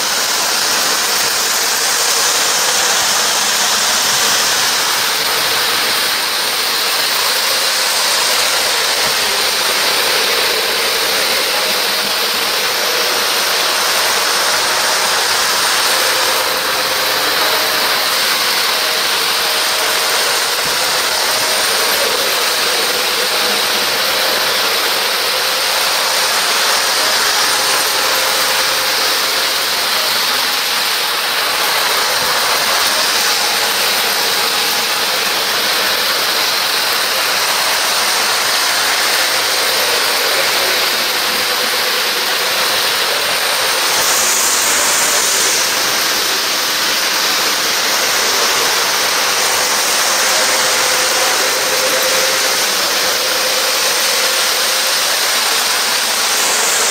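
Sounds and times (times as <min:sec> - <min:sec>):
model trains whirring: 0:00.0 - 0:56.9.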